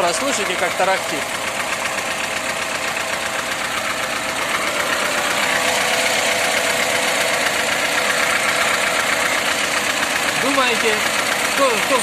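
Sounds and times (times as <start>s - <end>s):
car engine idling: 0.0s - 12.0s
steady rattle: 0.0s - 12.0s.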